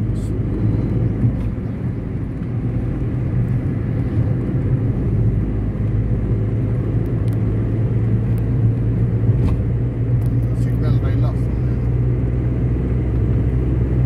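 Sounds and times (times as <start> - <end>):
vehicle road and engine noise: 0.0 - 14.0.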